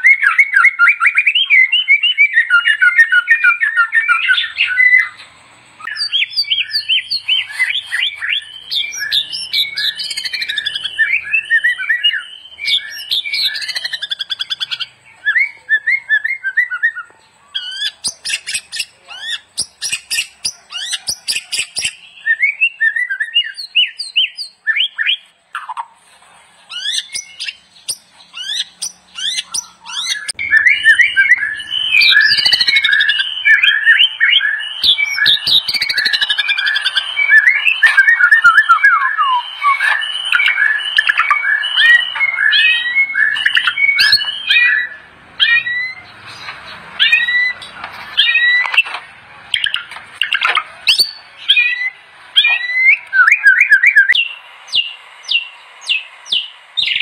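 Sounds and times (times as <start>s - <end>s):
bird singing whistles and chatters: 0.0s - 25.9s, 26.6s - 57.0s.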